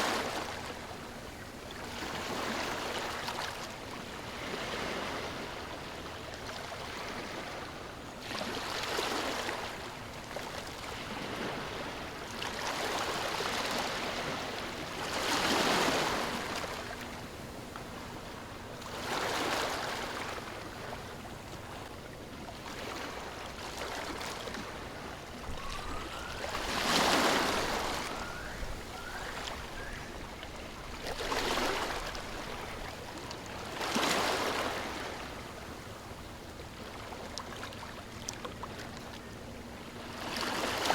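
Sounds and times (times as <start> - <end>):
sea waves washing on shore: 0.0 - 37.9.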